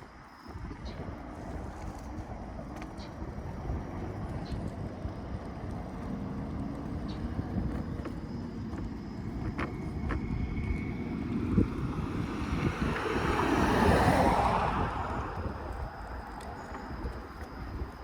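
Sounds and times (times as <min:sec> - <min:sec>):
low road rumble: 0:00.0 - 0:18.0
wind rushing over microphone: 0:00.0 - 0:18.0.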